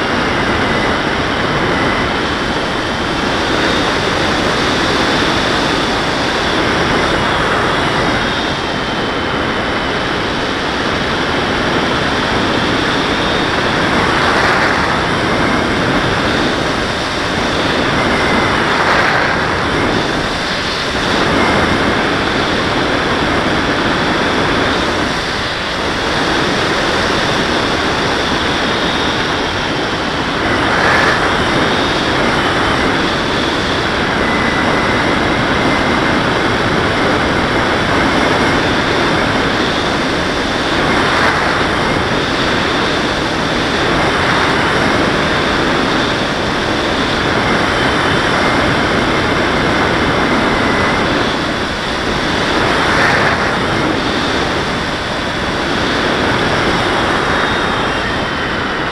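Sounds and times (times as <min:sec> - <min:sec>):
motor and propeller whine: 0:00.0 - 0:58.9
wind rushing over camera: 0:00.0 - 0:58.9.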